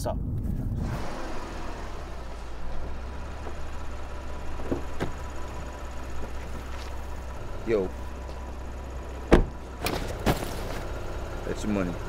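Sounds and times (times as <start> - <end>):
car engine idling: 0.8 - 12.0.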